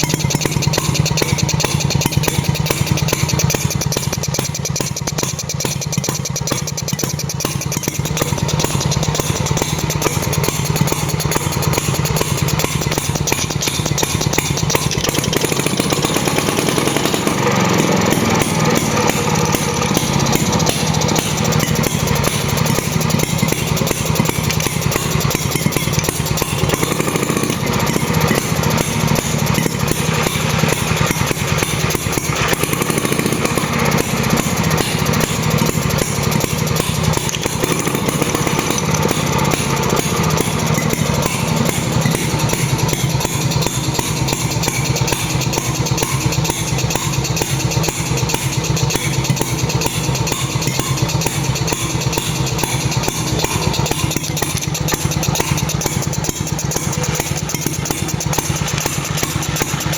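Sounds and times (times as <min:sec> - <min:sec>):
marine engine running steadily: 0:00.0 - 0:59.9.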